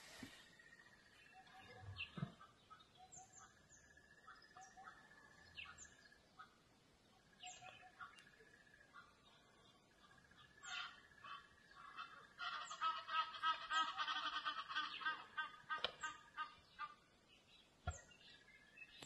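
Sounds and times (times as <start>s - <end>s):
bird chirps: 0.1s - 19.0s.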